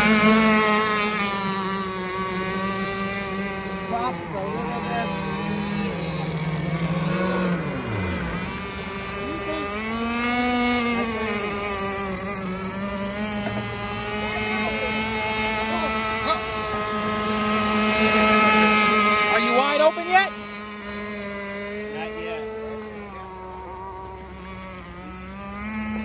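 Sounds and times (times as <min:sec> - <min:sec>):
model boat engines running: 0:00.0 - 0:26.0.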